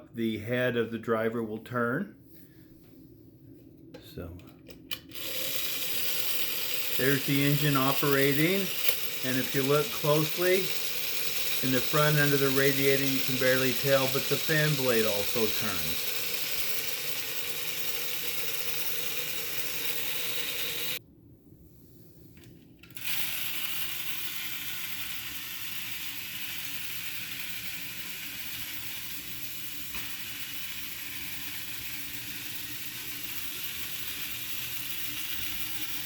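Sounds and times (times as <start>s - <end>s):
toy truck motor whirring and rattling: 4.9s - 21.0s, 22.8s - 36.0s.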